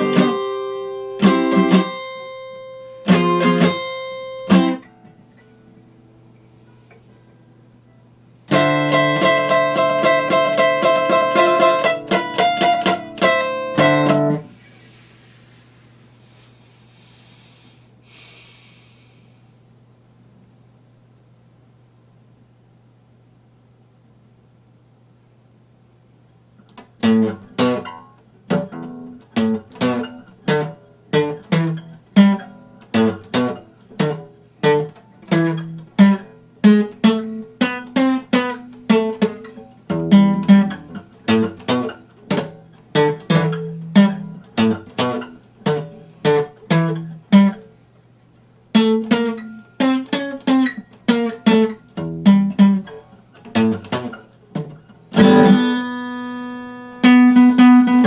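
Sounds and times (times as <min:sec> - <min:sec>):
acoustic guitar picking: 0:00.0 - 0:17.4, 0:26.6 - 0:47.9, 0:48.6 - 0:58.0.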